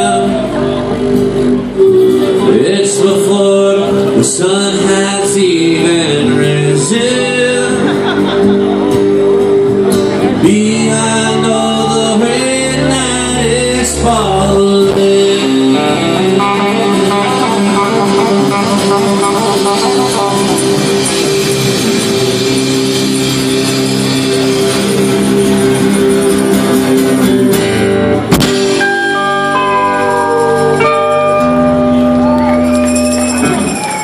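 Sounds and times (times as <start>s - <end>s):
folk-rock band playing guitars: 0.0s - 34.0s.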